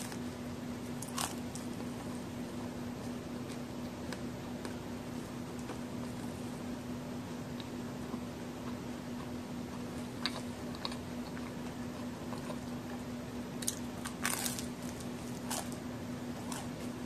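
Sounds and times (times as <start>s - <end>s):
cookie crunching: 0.0s - 17.0s.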